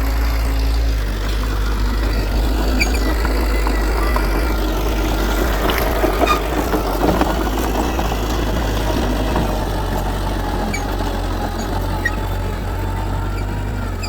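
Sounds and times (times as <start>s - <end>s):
heavy machinery diesel engine: 0.0s - 14.0s
light rattles and clanks: 0.2s - 14.0s.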